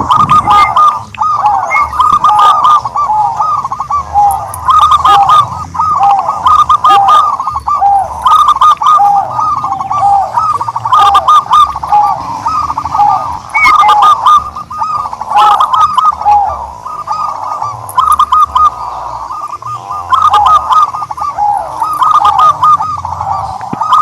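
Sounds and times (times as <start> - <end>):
turtledoves cooing: 0.0 - 24.0.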